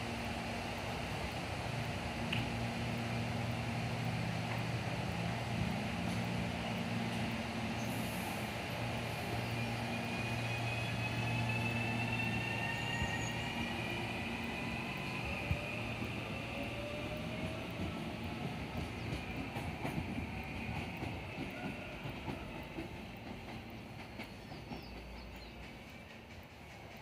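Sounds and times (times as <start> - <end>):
electric train drive whining: 0.0 - 25.1
standing train humming: 0.0 - 27.0.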